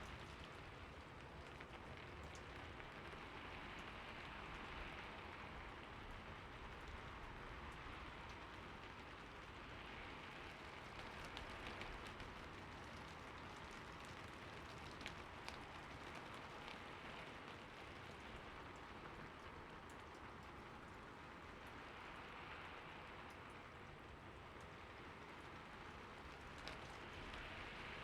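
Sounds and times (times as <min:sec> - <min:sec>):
soft rainfall: 0:00.0 - 0:28.0.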